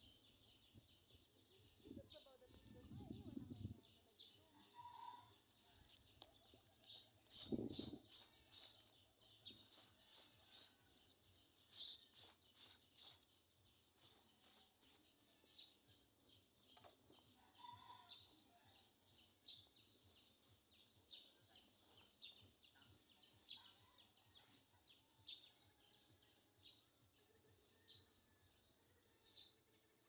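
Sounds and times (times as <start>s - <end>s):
birds chirping: 0.0s - 25.6s.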